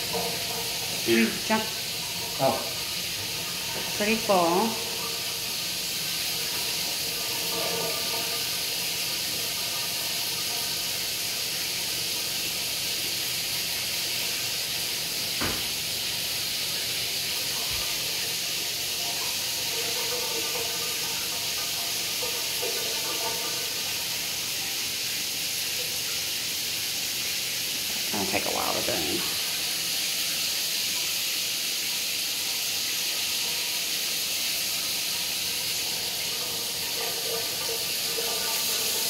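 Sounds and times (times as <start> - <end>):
shower water spraying: 0.0 - 39.0.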